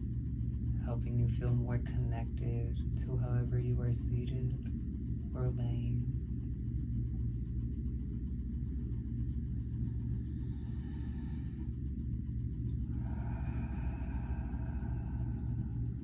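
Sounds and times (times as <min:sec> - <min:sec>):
low drone: 0:00.0 - 0:16.0.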